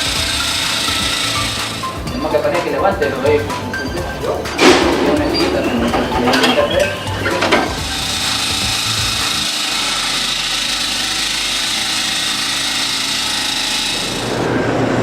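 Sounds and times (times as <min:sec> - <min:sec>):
power tool grinding: 0:00.0 - 0:02.3, 0:04.4 - 0:14.6.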